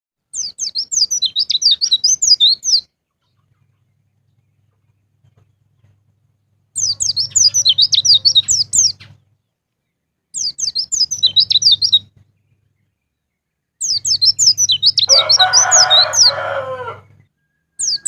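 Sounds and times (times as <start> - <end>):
bird chirping song: 0.2 - 18.0.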